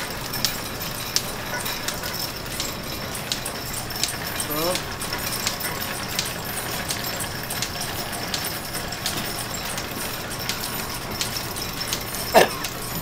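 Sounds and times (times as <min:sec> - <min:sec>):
line shaft and belt pulleys clatter: 0:00.0 - 0:13.0.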